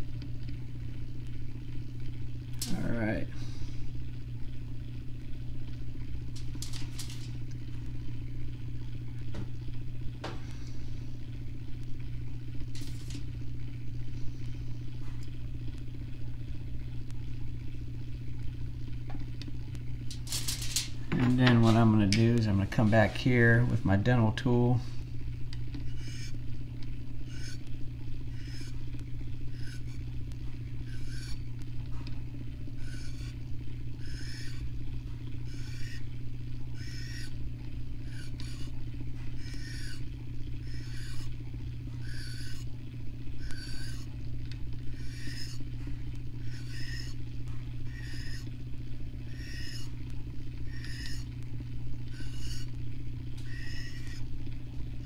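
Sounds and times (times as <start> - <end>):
motor humming: 0.0 - 55.0.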